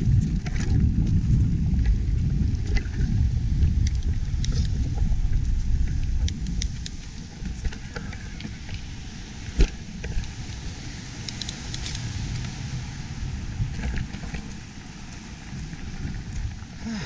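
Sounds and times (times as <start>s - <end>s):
bike rattling over rough trail: 0.0s - 17.0s
wind rumble on microphone: 0.0s - 17.0s.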